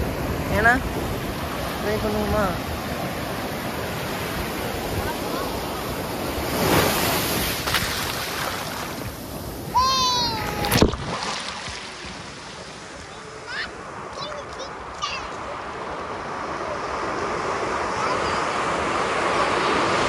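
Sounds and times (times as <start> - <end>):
waves breaking on sand: 0.0 - 20.0.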